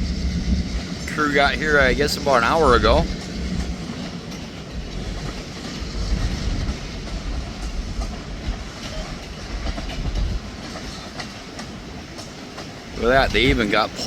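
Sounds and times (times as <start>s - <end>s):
freight train rumbling past: 0.0s - 14.0s
wheels clicking over rail joints: 0.0s - 14.0s.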